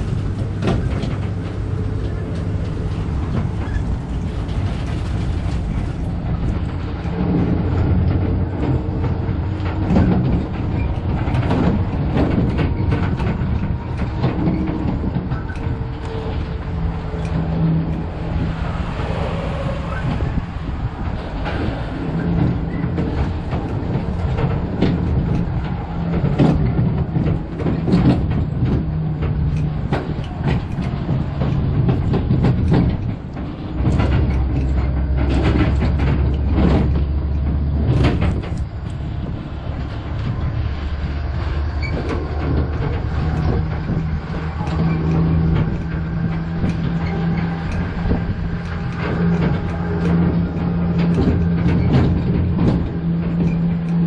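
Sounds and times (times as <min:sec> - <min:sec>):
carriages rattling and knocking: 0:00.0 - 0:54.0
tram humming: 0:00.0 - 0:54.0.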